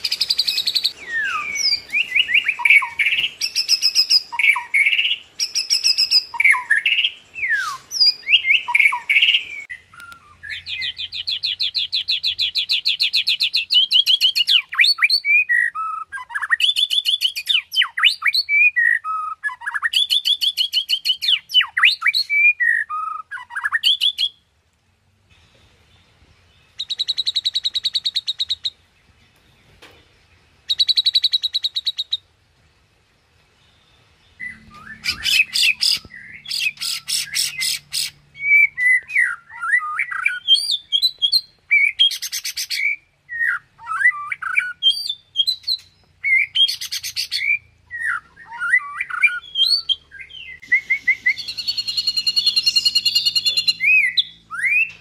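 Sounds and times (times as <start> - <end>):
songbird singing loudly: 0.0 - 24.5, 25.9 - 32.3, 33.5 - 55.0.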